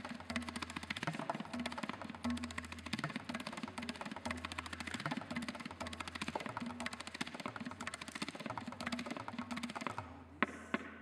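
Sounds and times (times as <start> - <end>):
tabla drumming: 0.0 - 11.0.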